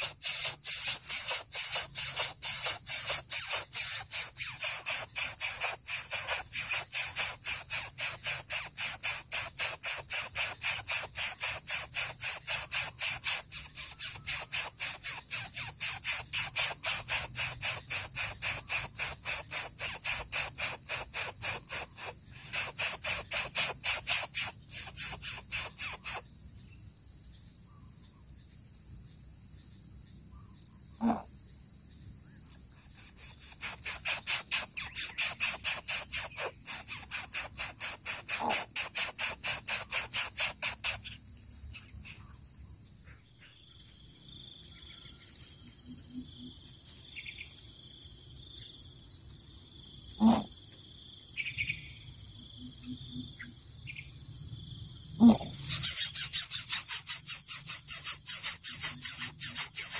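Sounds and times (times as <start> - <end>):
faint insect calls: 0.0 - 59.9
insect rhythmic pulsing: 0.0 - 59.9
insects droning: 0.0 - 59.9.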